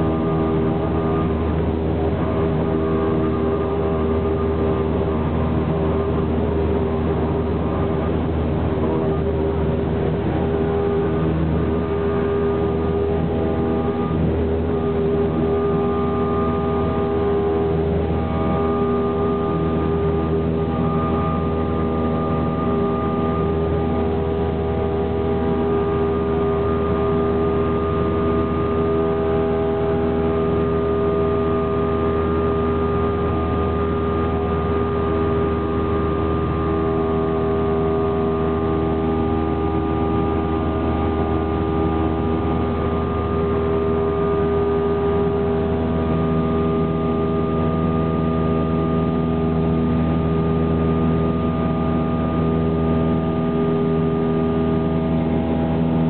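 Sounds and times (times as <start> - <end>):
light aircraft engine drone: 0.0 - 56.0.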